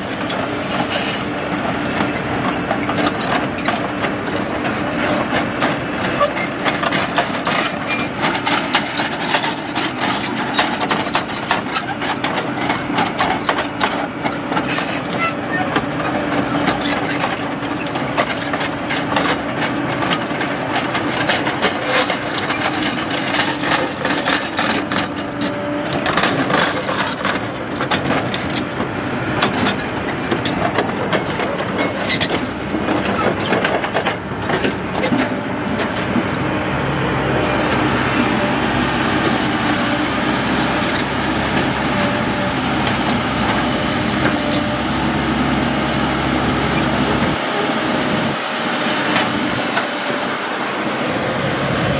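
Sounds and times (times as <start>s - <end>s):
steel tracks clanking: 0.0s - 45.4s
excavator diesel engine running: 0.0s - 51.9s.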